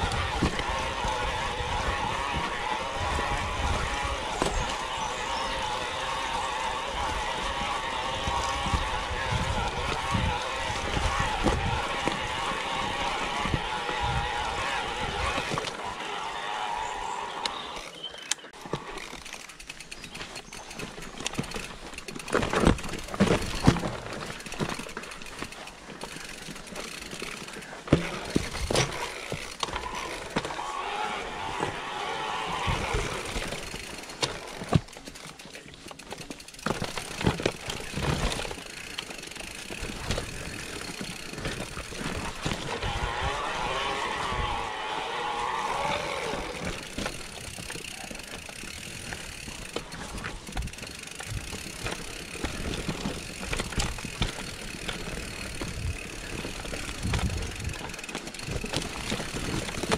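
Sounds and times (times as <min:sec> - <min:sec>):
bike rattling: 0:00.0 - 0:59.9
bike tyres rolling over stones: 0:00.0 - 0:59.9.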